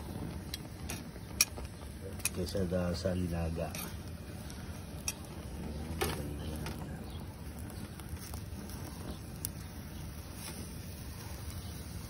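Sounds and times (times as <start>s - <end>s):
metal tongs scraping grill grate: 0.0s - 12.0s
steady low rumble: 0.0s - 12.0s.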